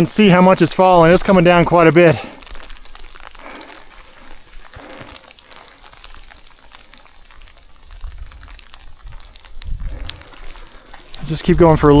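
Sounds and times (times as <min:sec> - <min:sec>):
falling snow pattering: 0:00.0 - 0:12.0.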